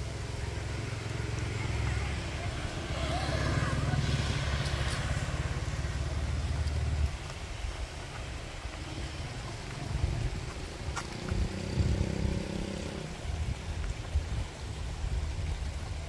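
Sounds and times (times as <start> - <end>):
vehicle engine: 0.0 - 16.0
wind rumbling on microphone: 0.0 - 16.0.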